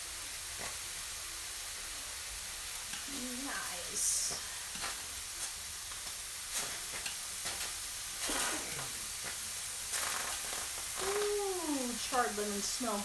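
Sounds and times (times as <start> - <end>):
lemon slices sizzling: 0.0 - 13.0.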